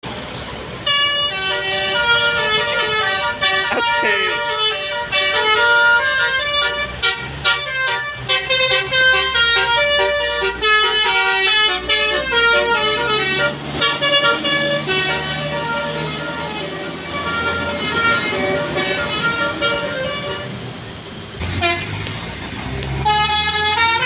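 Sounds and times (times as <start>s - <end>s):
low engine rumble: 0.0s - 24.0s
musical air horn melody: 0.8s - 20.5s, 21.4s - 22.2s, 22.9s - 24.0s.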